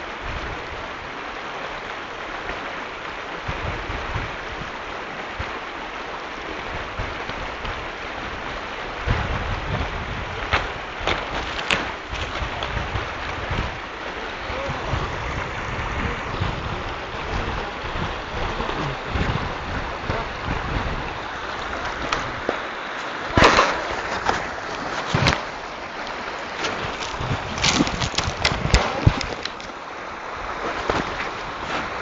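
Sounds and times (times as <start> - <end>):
river flowing over stones: 0.0 - 32.0
wind buffeting microphone: 3.0 - 32.0.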